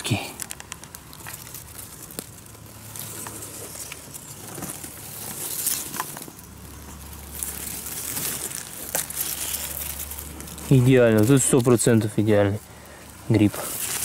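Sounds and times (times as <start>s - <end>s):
grass and leaves rustling: 0.0s - 14.0s
light crackles and clicks: 0.0s - 14.0s.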